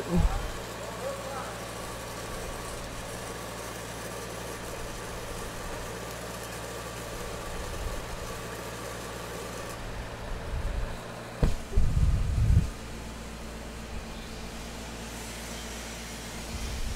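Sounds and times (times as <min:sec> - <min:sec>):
welding arc hissing: 0:00.0 - 0:16.9
welding machine humming: 0:00.0 - 0:16.9.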